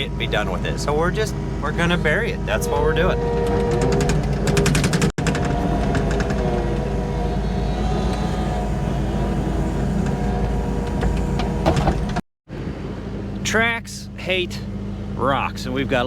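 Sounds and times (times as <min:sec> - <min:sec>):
diesel engine rumbling: 0:00.0 - 0:16.0
faint engine whine: 0:00.0 - 0:16.0.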